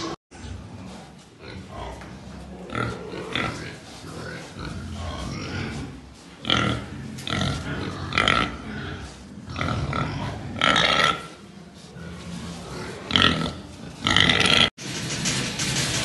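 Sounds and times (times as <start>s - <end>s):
pigs squealing: 1.4s - 14.7s.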